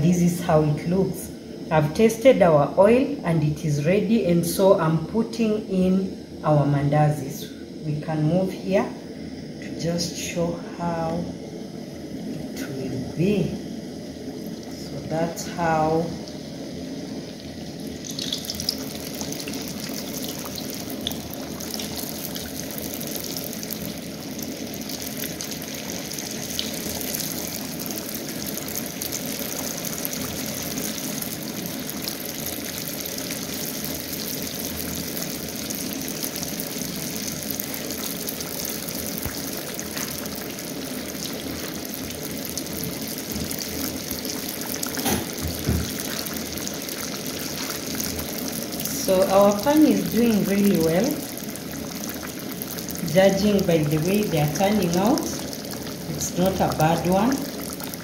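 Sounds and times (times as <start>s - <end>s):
dough frying in hot oil: 11.0s - 58.0s.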